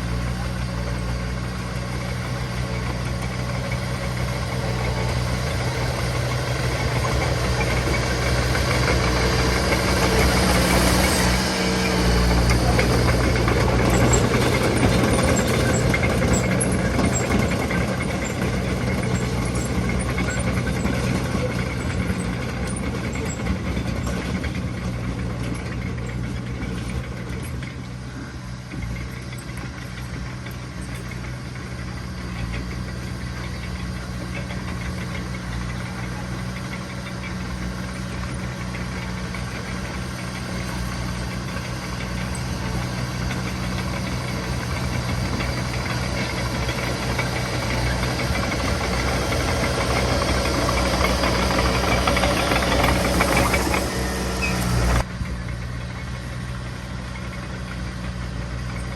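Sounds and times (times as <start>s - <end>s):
heavy machinery diesel engine running: 0.0s - 58.9s.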